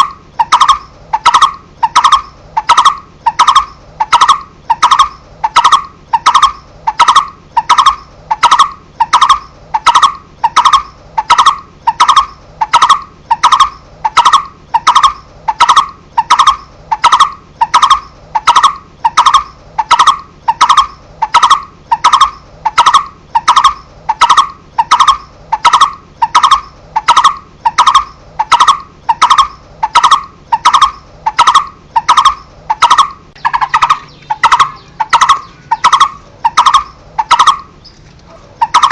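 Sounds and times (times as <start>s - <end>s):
bird calling hollow tuk notes: 0.0s - 38.9s.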